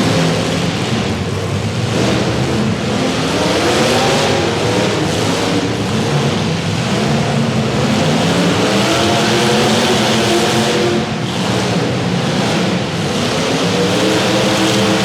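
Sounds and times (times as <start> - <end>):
car engines revving loudly: 0.0 - 15.0.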